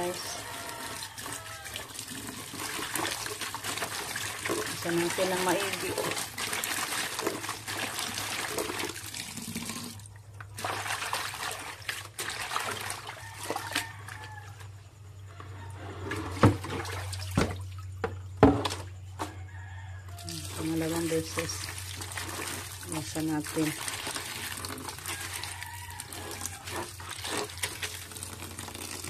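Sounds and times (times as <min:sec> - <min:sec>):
tap water running into basin: 0:00.0 - 0:14.6, 0:16.2 - 0:18.8, 0:20.2 - 0:29.0.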